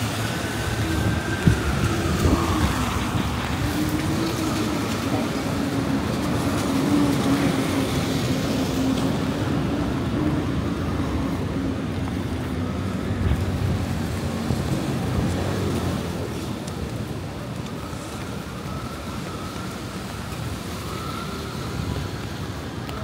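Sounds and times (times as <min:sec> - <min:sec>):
cars passing on wet road: 0:00.0 - 0:23.0.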